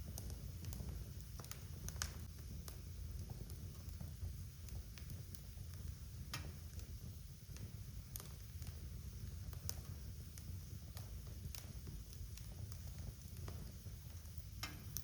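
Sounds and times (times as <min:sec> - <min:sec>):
fire flames rumbling: 0:00.0 - 0:15.0
wood fire popping and snapping: 0:00.0 - 0:15.0.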